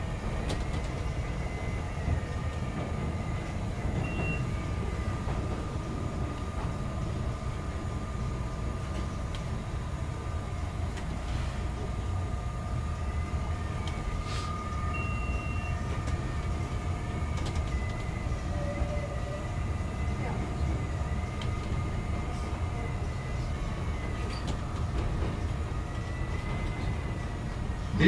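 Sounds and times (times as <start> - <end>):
train high whine: 0.0 - 28.0
train rumbling on track: 0.0 - 28.0.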